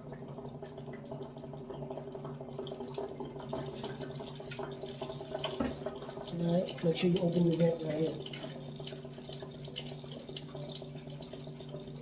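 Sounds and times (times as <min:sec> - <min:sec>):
water running and spattering: 0:00.0 - 0:12.0.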